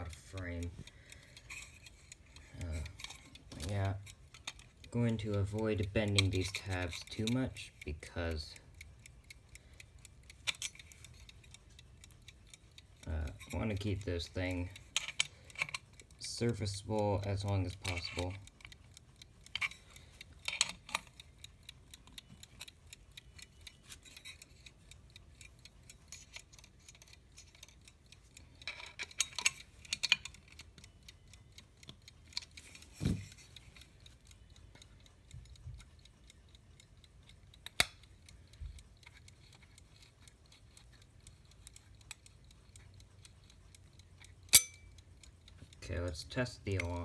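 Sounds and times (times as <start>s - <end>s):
clock ticking: 0.0s - 47.0s.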